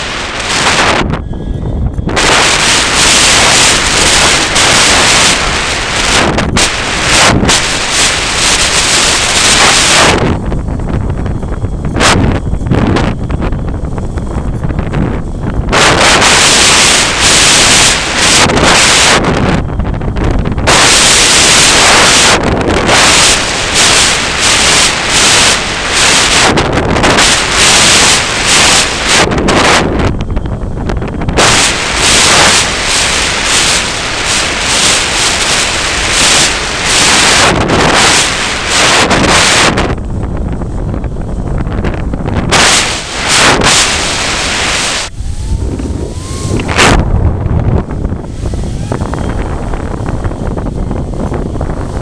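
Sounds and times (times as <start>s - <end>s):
gusty wind buffeting microphone: 0.0s - 52.0s.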